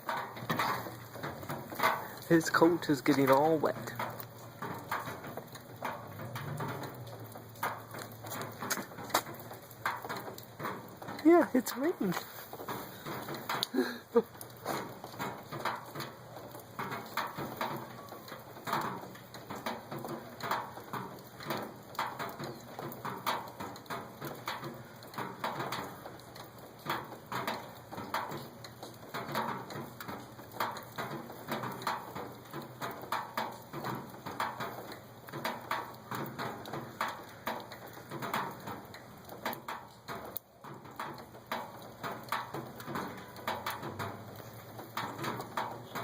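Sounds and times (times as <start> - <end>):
rain drops tapping: 0.0 - 46.0.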